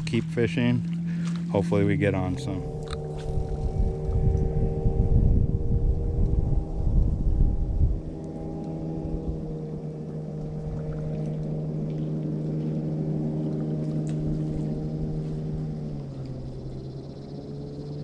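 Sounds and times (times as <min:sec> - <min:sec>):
motorboat engine humming: 0:00.0 - 0:18.0
wind rumble on microphone: 0:00.0 - 0:18.0.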